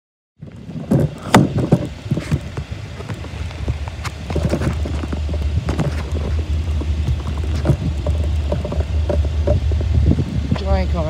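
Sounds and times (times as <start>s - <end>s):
knocks and crunches: 0.4s - 10.3s
low steady rumble: 0.4s - 11.0s.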